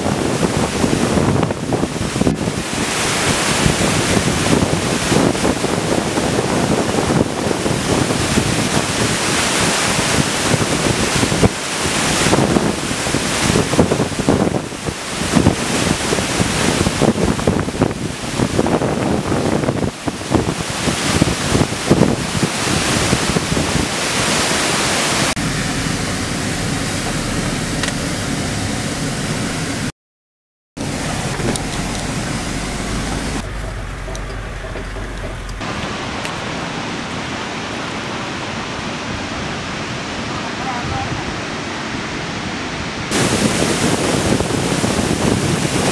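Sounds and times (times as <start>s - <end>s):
waterfall crashing: 0.0s - 29.9s, 30.8s - 45.9s
wind buffeting microphone: 0.0s - 29.9s, 30.8s - 45.9s.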